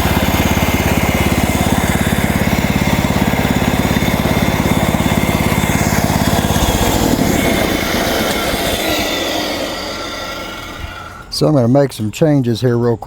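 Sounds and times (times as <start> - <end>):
band sawmill cutting log: 0.0 - 12.4.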